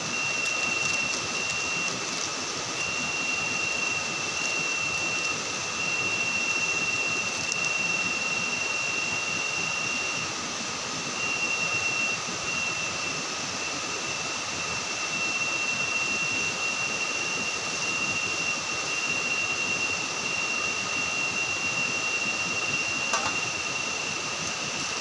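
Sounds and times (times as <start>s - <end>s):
high thin whining tone: 0.0s - 10.2s, 15.0s - 25.0s.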